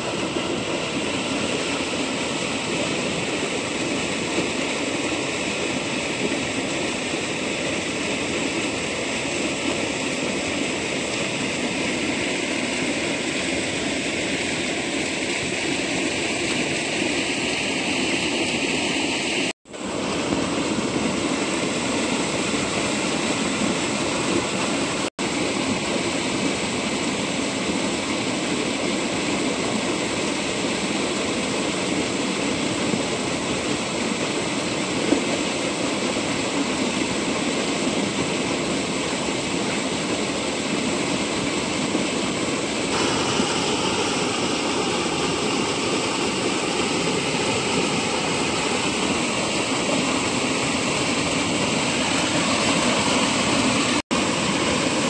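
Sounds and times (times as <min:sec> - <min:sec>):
water gushing from pipe: 0:00.0 - 0:55.0.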